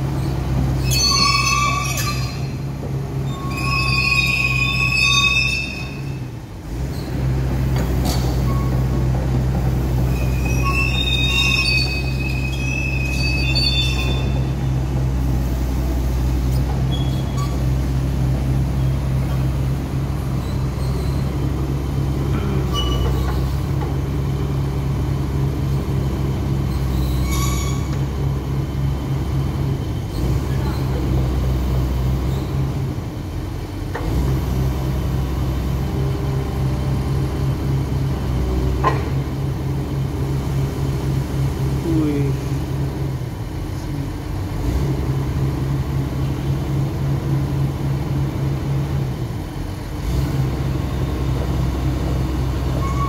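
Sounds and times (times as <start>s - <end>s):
diesel engine running: 0.0s - 53.0s
steel tracks squealing: 0.0s - 53.0s.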